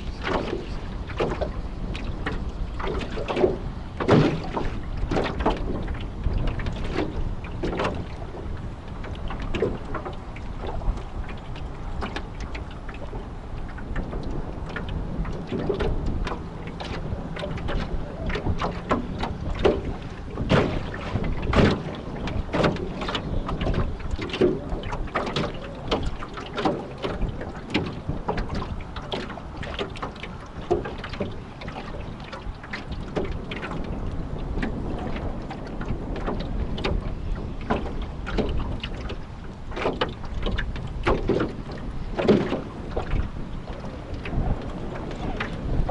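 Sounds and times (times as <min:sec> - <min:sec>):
water slapping against boat: 0:00.0 - 0:45.9
wind rumble on microphone: 0:00.0 - 0:45.9.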